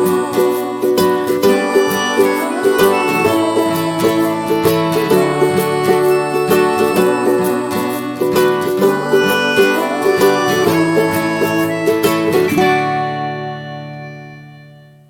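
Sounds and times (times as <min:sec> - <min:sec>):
fast plucked string music: 0:00.0 - 0:15.0.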